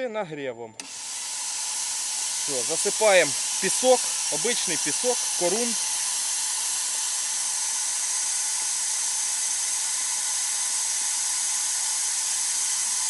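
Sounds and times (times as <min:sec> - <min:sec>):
compressed air hissing from nozzle: 0:00.8 - 0:13.0.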